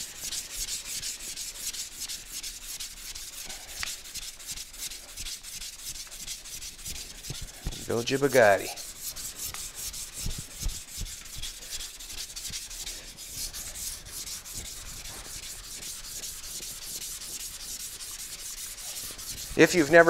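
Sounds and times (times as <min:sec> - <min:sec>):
hand sanding scratching: 0:00.0 - 0:20.0.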